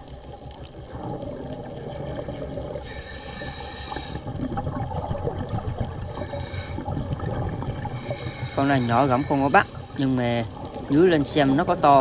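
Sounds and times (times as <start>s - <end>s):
crackling background: 0.0s - 12.0s
underwater air bubbles gurgling: 0.0s - 12.0s.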